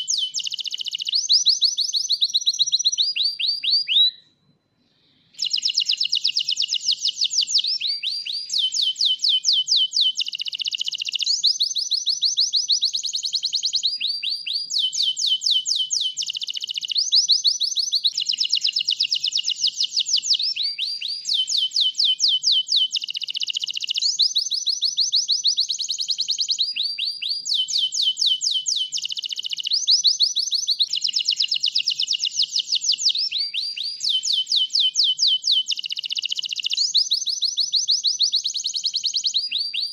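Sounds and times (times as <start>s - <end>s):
canary singing trills: 0.0s - 4.2s, 5.4s - 39.9s.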